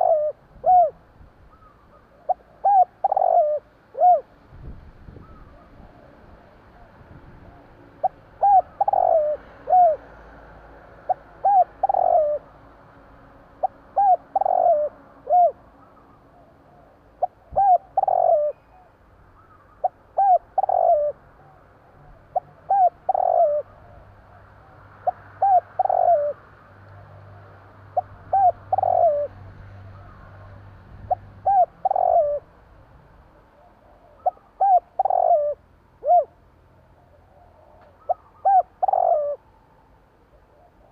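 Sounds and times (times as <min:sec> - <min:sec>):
dove cooing: 0:00.0 - 0:04.4, 0:05.2 - 0:10.2, 0:11.0 - 0:12.5, 0:13.6 - 0:26.4, 0:27.0 - 0:32.5, 0:33.4 - 0:36.4, 0:37.0 - 0:39.5, 0:40.3 - 0:40.9.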